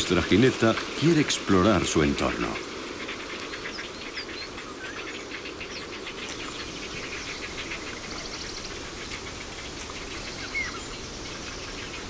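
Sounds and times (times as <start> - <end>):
steady hiss with small chirps: 0.0 - 12.0.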